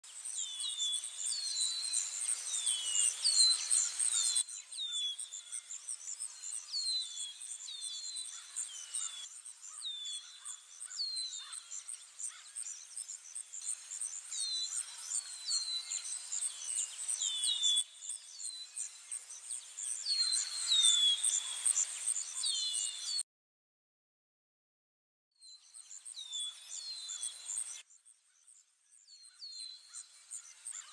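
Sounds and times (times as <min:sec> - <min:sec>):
bird chirps: 0:00.2 - 0:23.2, 0:25.4 - 0:30.9.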